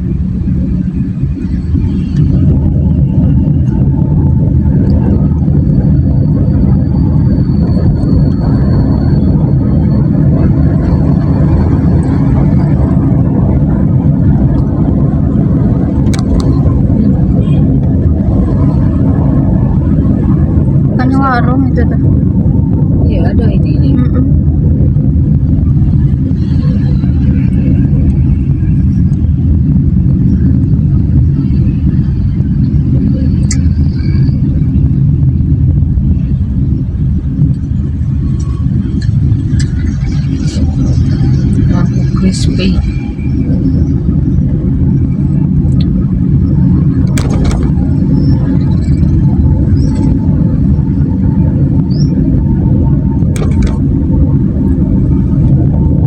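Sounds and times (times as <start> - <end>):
motorcycle engine and road rumble: 0.0 - 56.0.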